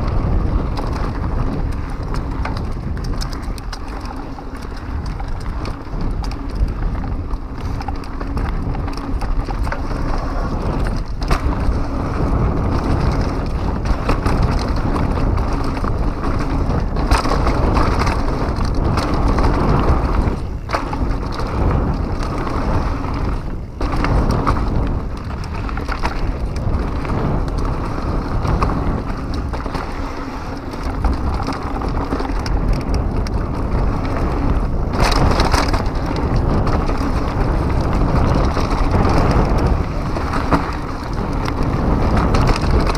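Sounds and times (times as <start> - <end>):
bike knocks and rattles: 0.0 - 42.9
tyres rushing over dirt: 0.0 - 42.9
wind buffeting microphone: 0.0 - 42.9.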